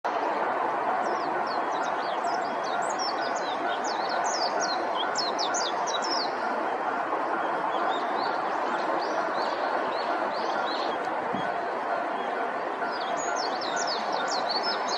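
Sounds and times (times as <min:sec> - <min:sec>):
steady background noise: 0:00.0 - 0:14.9
bird twittering: 0:01.3 - 0:14.9.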